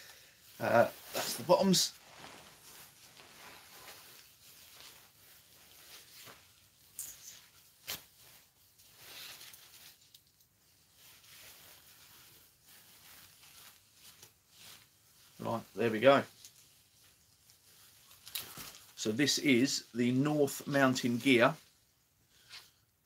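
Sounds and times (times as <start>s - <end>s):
fabric rustling: 0.0s - 23.0s.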